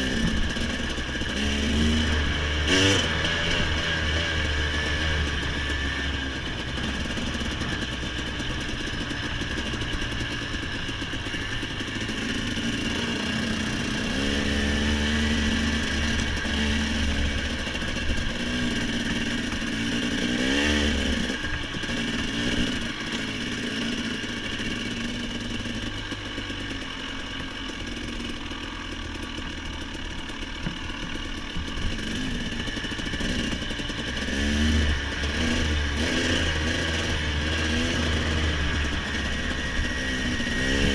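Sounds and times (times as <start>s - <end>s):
off-road vehicle engine revving: 0.0s - 28.4s, 31.4s - 40.9s.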